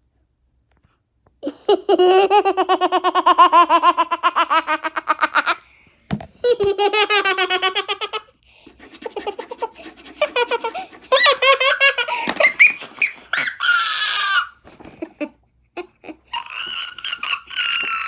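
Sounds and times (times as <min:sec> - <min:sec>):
girl laughing loudly: 0:01.4 - 0:05.6, 0:06.4 - 0:08.3, 0:08.9 - 0:18.0.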